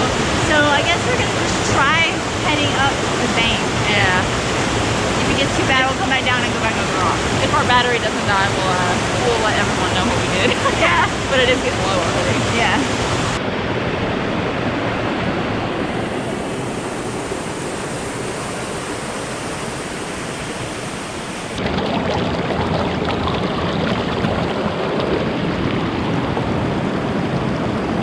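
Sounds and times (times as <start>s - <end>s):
river water rushing over rocks: 0.0s - 28.0s.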